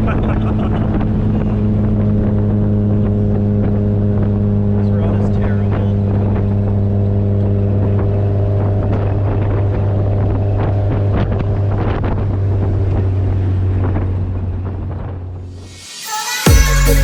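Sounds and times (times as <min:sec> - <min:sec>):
car engine droning through exhaust: 0:00.0 - 0:15.8.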